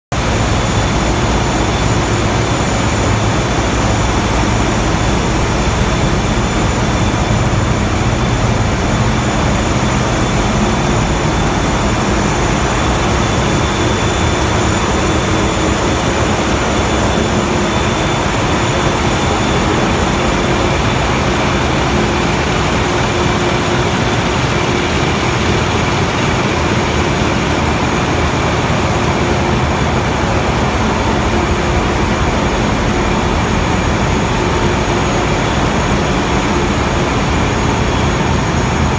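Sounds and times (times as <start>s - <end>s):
diesel engines running: 0.2s - 38.9s
steady whining tones: 0.2s - 38.9s.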